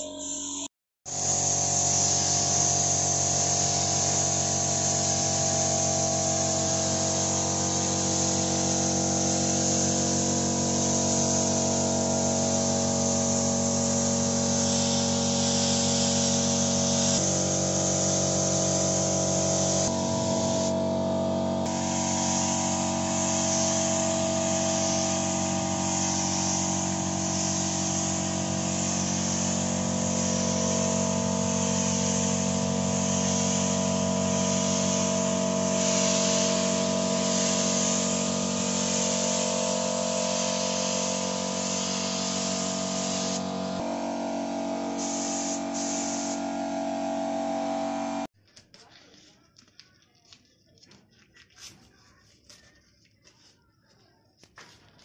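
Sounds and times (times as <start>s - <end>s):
steady machine hum: 0.0s - 48.3s
air spray gun hissing: 1.1s - 48.3s.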